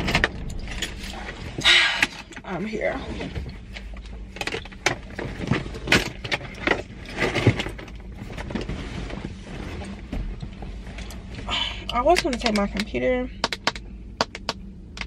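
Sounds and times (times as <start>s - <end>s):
rustling of items: 0.0s - 12.8s
steady low hum: 0.0s - 15.0s.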